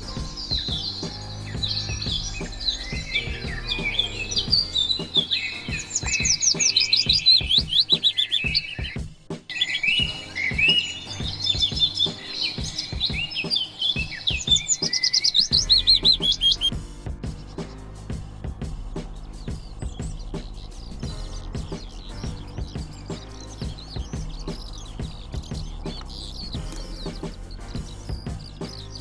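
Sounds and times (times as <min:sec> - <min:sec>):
quiet background music: 0:00.0 - 0:29.0
songbirds singing: 0:00.0 - 0:29.0.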